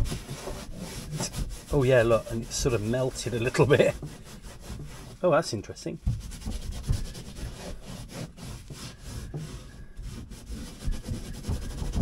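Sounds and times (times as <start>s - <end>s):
wire brush scrubbing: 0.0s - 12.0s.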